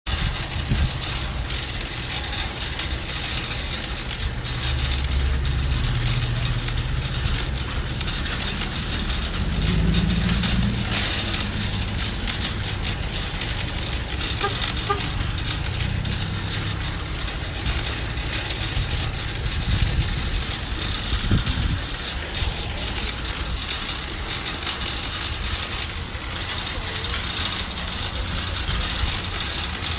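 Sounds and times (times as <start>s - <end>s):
shopping cart wheels rolling: 0.0s - 29.9s
wire basket rattling: 0.0s - 29.9s.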